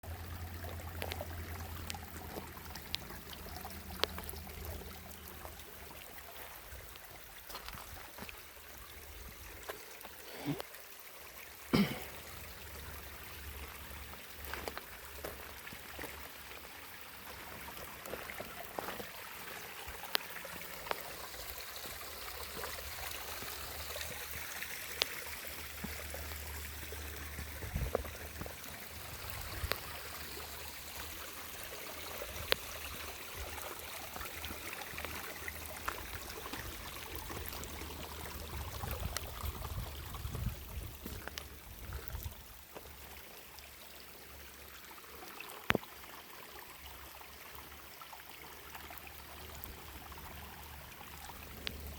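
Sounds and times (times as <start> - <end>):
water trickling: 0.0 - 51.9.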